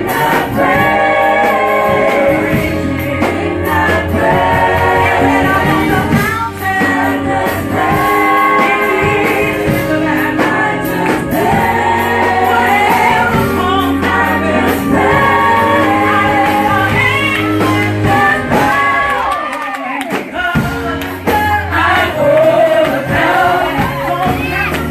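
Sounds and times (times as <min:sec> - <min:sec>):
band with steady bass line: 0:00.0 - 0:24.9
gospel choir singing: 0:00.0 - 0:24.9.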